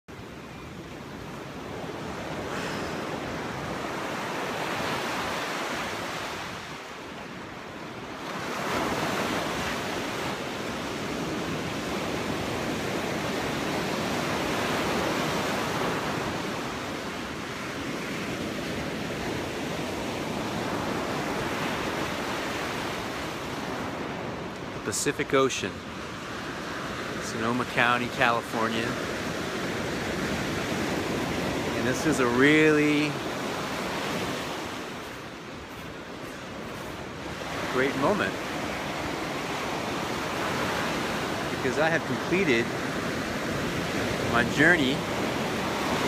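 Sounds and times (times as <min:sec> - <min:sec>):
ocean surf breaking: 0:00.1 - 0:46.0.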